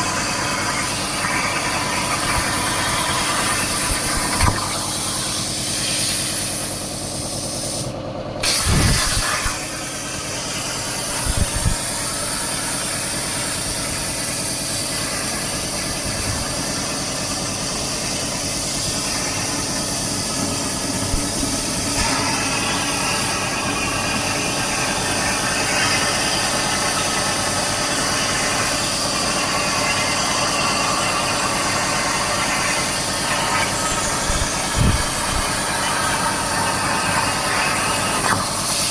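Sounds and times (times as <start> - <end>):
plasma torch hissing with whine: 0.0 - 38.9.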